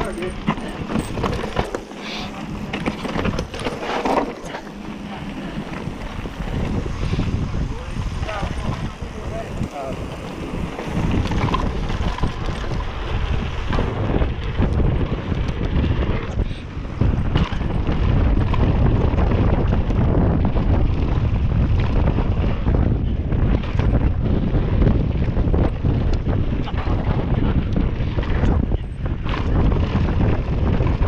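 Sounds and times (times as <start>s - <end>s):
bike rattling over bumps: 0.0s - 31.0s
bike tyres on dirt trail: 0.0s - 31.0s
wind rushing over microphone: 0.0s - 31.0s.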